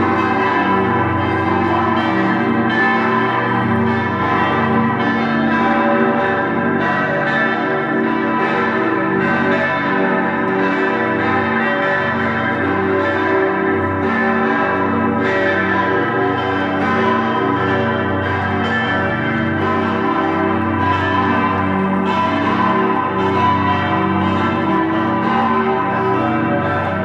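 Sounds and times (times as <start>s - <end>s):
church bells pealing: 0.0s - 27.0s.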